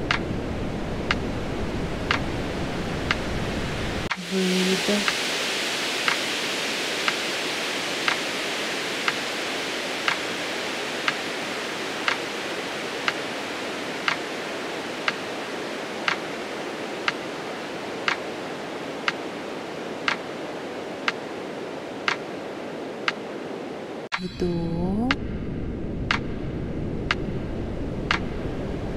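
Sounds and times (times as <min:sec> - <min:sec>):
steady hiss: 0:00.0 - 0:24.6.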